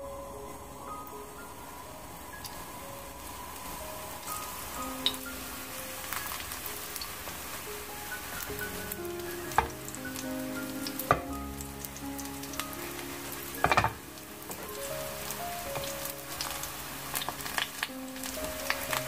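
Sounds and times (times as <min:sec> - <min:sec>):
mushrooms sizzling in oil: 0:00.4 - 0:19.0.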